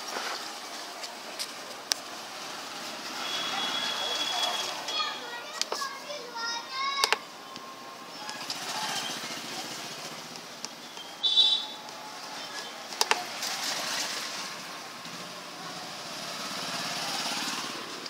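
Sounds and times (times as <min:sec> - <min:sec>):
engine-like background noise: 0:00.0 - 0:18.0.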